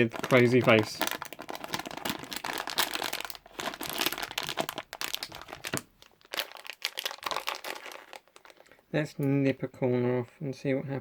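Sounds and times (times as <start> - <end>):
plastic packet crinkling: 0.0 - 8.8.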